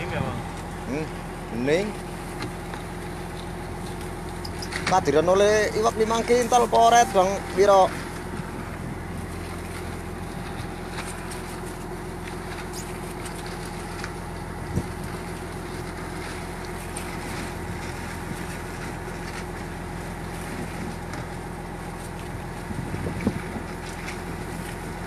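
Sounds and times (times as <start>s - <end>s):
boat engine droning: 0.0s - 25.0s
wind and water hiss: 0.0s - 25.0s.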